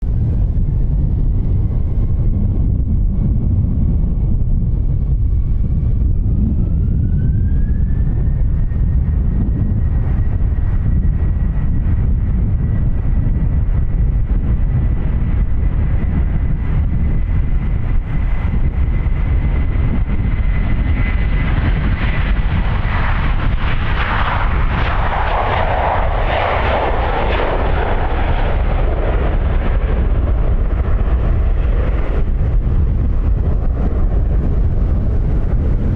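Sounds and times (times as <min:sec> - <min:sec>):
heavy low rumble: 0:00.0 - 0:35.9
jet engines whining: 0:00.2 - 0:35.9
jet roaring past: 0:00.2 - 0:35.9.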